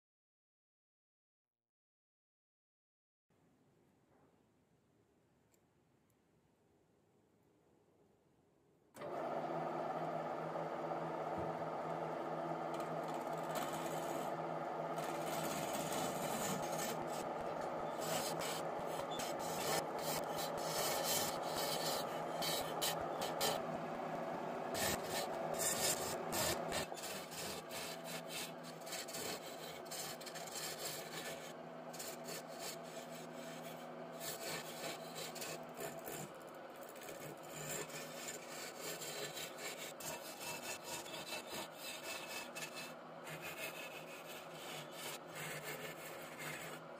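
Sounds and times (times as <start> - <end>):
chisel shaving wood: 9.0 - 46.9
lathe humming: 9.0 - 46.9.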